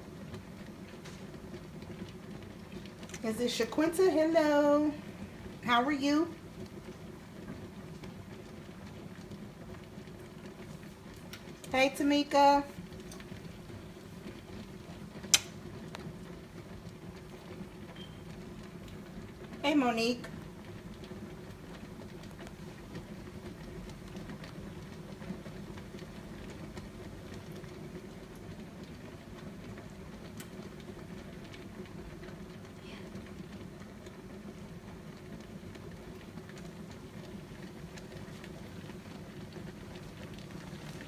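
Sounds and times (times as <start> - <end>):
pot of water heating: 0.0 - 41.0.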